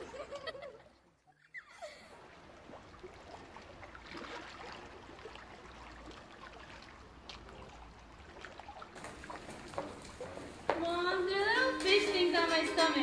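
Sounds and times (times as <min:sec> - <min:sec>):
faint steady water noise: 0:00.0 - 0:13.0.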